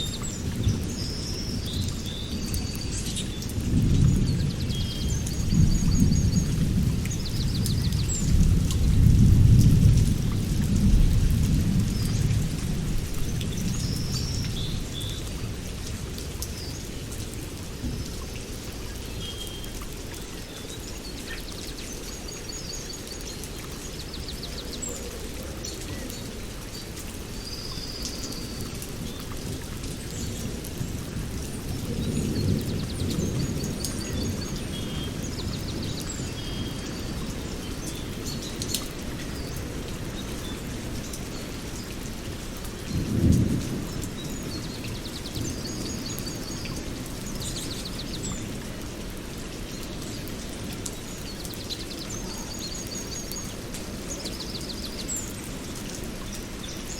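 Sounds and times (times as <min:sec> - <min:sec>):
rushing water or rain: 0:00.0 - 0:56.9.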